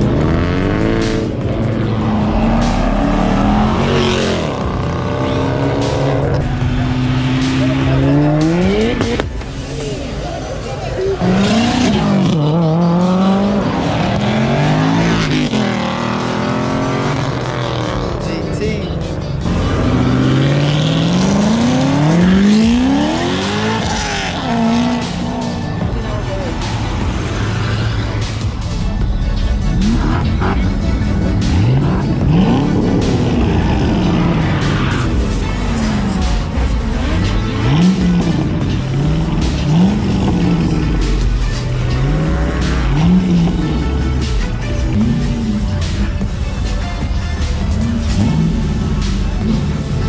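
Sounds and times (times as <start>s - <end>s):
car engines revving and accelerating: 0.0s - 50.0s.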